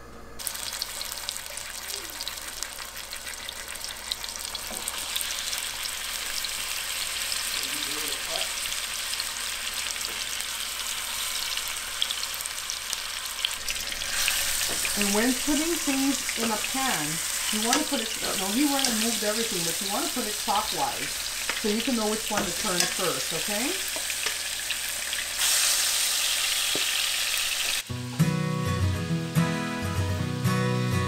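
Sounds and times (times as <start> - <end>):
meat sizzling in hot oil: 0.4 - 27.9.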